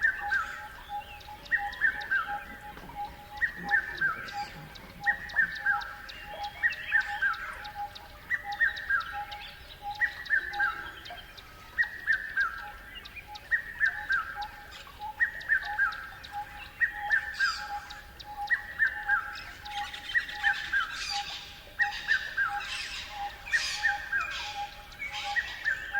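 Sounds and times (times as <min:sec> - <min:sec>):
low pulsing bird call: 0:00.0 - 0:25.9.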